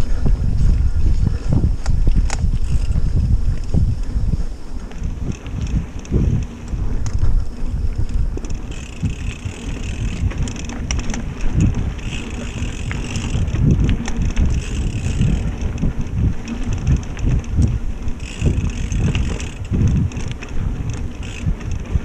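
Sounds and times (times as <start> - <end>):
bike clicks and rattles: 0.0 - 22.0
tyre noise on dirt: 0.0 - 22.0
wind buffeting microphone: 0.0 - 22.0.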